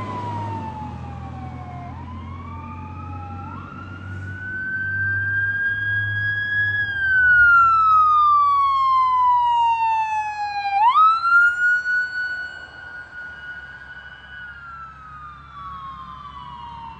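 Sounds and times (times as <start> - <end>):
electronic siren wailing: 0.0 - 16.9.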